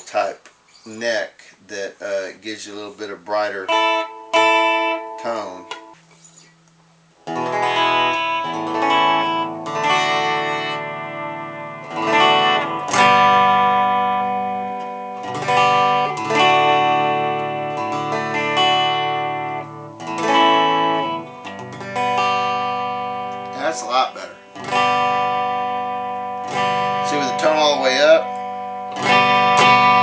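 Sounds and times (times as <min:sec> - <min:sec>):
electric guitar chords strummed: 0:03.2 - 0:06.4, 0:07.2 - 0:30.0.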